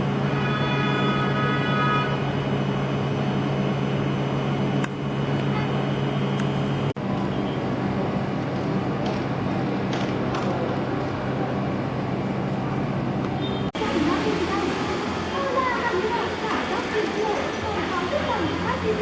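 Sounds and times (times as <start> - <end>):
traffic engine hum: 0.0 - 19.0.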